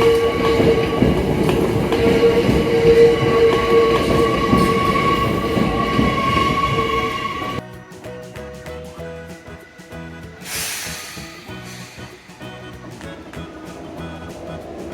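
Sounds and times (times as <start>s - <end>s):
steady high squeal: 0.0s - 7.7s, 9.2s - 14.9s
train rumbling on rails: 0.0s - 7.7s, 10.3s - 14.9s.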